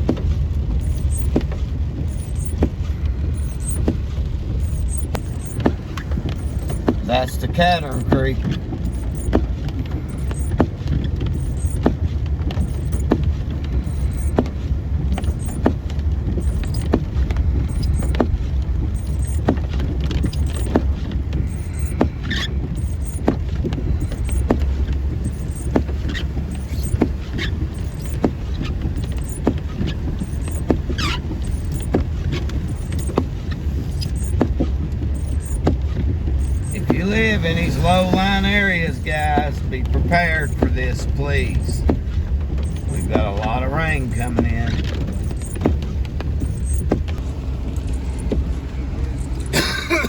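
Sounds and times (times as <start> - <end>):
road and engine rumble: 0.0 - 50.0
short falling squeaks: 0.8 - 49.6.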